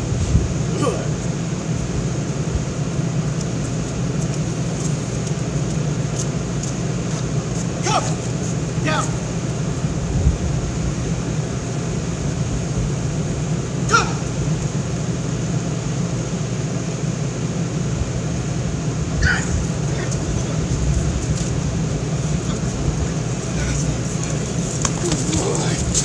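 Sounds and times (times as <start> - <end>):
city street low rumble: 0.0 - 26.0.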